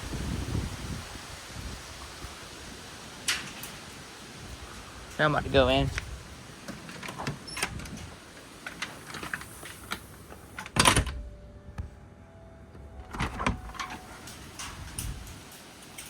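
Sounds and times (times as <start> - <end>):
storm hiss: 0.0 - 11.3, 13.6 - 16.0
faint steady hum: 0.0 - 16.0.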